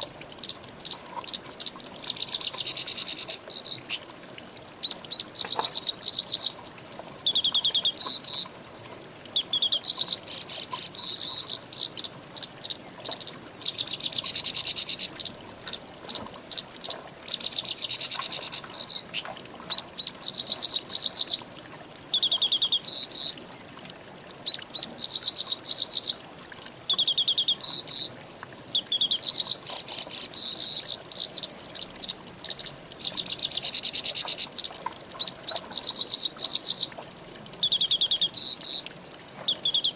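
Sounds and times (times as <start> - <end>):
songbirds chirping and trilling: 4.8 - 23.6, 24.5 - 39.9.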